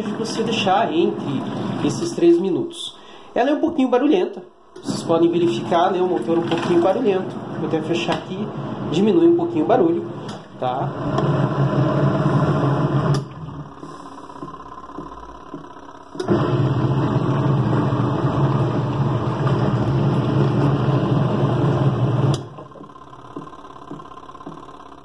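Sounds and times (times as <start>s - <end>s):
washing machine motor humming: 0.0s - 25.0s.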